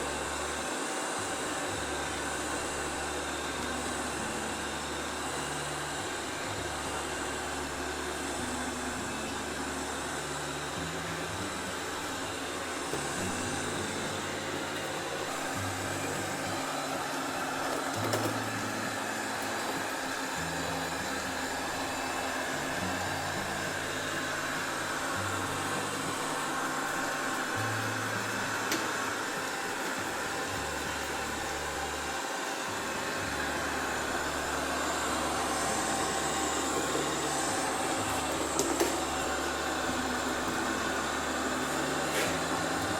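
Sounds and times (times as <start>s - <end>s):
robot vacuum cleaner whirring: 0.0s - 42.9s.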